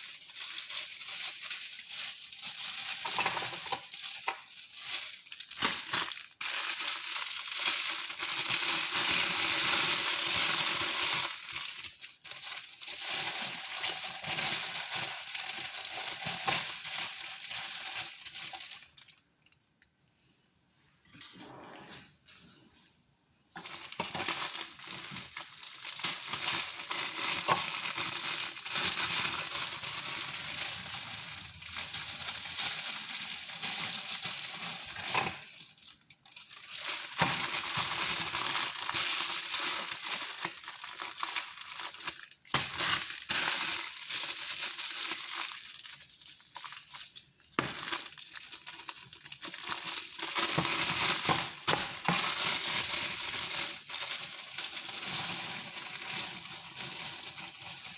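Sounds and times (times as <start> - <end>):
crinkling crunching noise: 0.0 - 20.0, 23.5 - 57.9.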